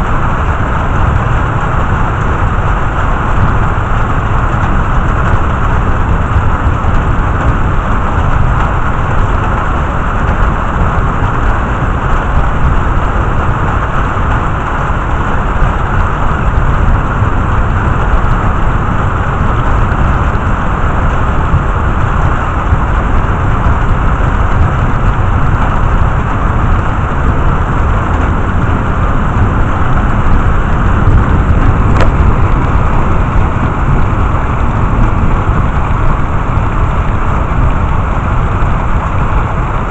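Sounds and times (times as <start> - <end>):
deep thunder rumble: 0.0 - 39.9
heavy rain pouring: 0.0 - 39.9.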